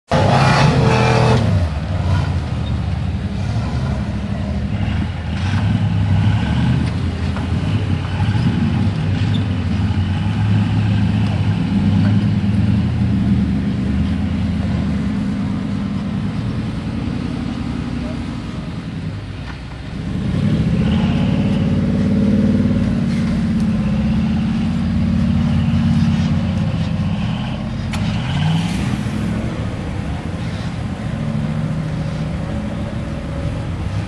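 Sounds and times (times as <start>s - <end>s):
off-road vehicle engines: 0.0s - 34.0s.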